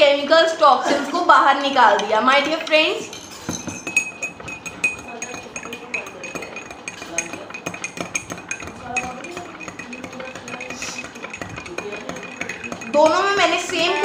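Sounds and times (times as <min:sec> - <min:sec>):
spoon clinking in glass: 0:01.9 - 0:14.0.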